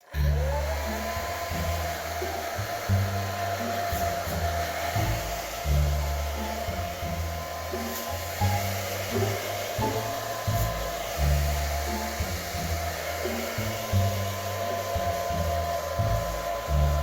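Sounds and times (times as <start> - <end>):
background music: 0.0 - 17.0
hair dryer running: 0.0 - 17.0.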